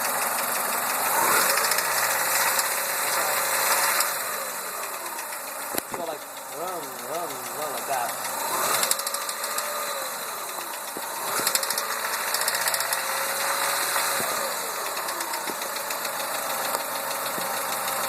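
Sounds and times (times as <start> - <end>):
engine running: 0.0 - 18.0
rapid engine knocking tick: 0.0 - 18.0.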